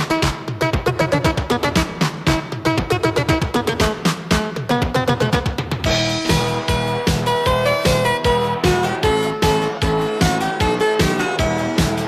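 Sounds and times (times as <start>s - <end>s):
background music with quick beat: 0.0s - 12.0s.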